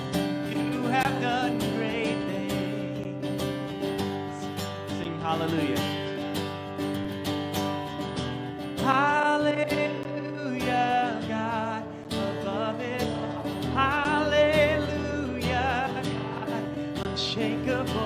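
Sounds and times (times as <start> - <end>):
man singing with vibrato: 0.0 - 6.7, 8.7 - 18.0
strummed acoustic guitar: 0.0 - 18.0.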